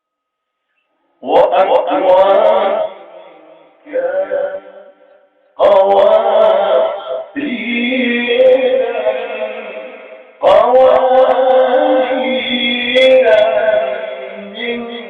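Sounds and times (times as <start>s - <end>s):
man chanting melodically: 1.2s - 15.0s.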